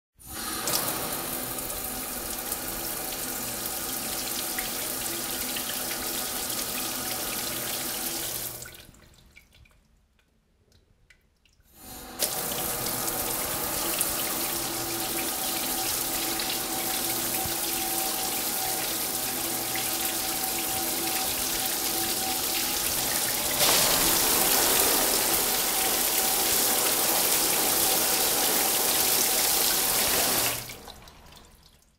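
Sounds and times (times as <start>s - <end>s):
shower water running: 0.2s - 9.1s, 11.7s - 31.9s.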